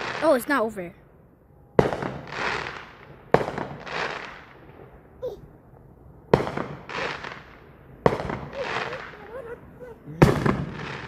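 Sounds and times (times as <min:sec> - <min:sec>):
firework bangs: 0:00.0 - 0:00.7, 0:01.7 - 0:05.1, 0:06.2 - 0:11.0
rushing hiss of fireworks: 0:00.0 - 0:00.8, 0:01.8 - 0:05.4, 0:06.3 - 0:11.0.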